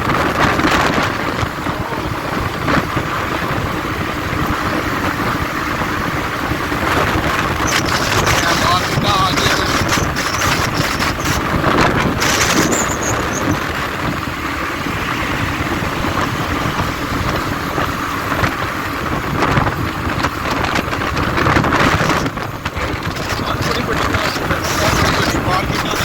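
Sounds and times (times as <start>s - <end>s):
motorbike engine and road noise: 0.0s - 26.0s
wind over microphone: 0.0s - 26.0s.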